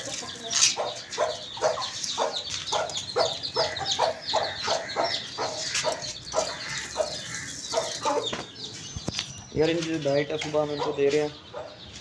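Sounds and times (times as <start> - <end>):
hen clucking: 0.0 - 11.7
chicks peeping: 0.0 - 12.0.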